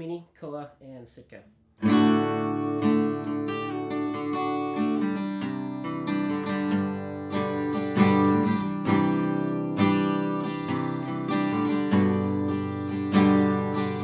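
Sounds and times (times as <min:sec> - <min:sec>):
acoustic guitar strummed: 0:01.8 - 0:14.0.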